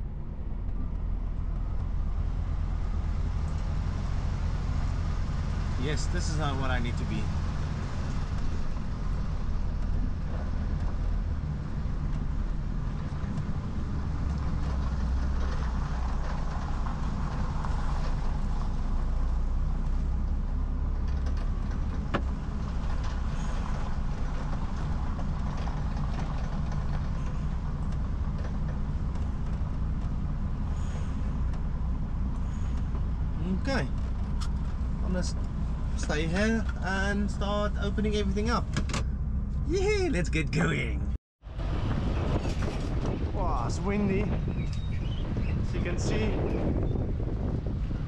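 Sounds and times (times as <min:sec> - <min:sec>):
lorry diesel engine rumble: 0:00.0 - 0:48.0.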